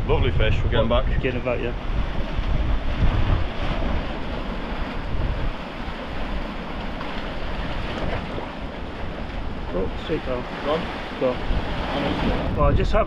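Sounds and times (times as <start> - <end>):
sea waves breaking against rocks: 0.0 - 13.0
wind buffeting microphone: 0.0 - 13.0.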